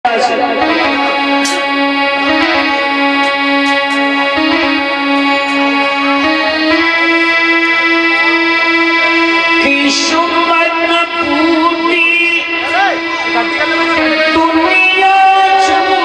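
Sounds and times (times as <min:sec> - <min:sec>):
keyboard melody: 0:00.0 - 0:16.0
pulsed low note: 0:00.0 - 0:16.0.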